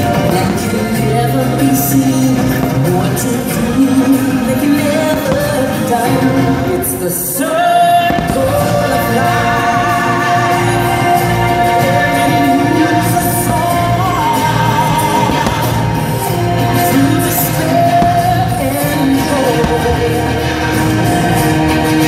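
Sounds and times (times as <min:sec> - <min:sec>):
loud music with singing: 0:00.0 - 0:22.0.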